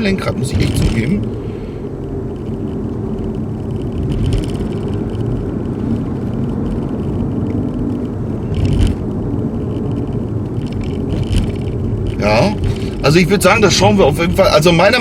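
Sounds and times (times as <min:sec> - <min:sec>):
trembling wheel bearing hum: 0:00.0 - 0:15.0
tyre rumble in car cabin: 0:00.0 - 0:15.0.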